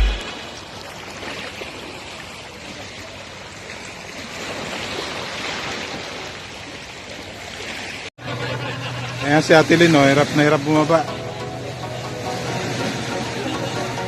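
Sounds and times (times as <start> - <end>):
moving water wash: 0.0 - 14.0.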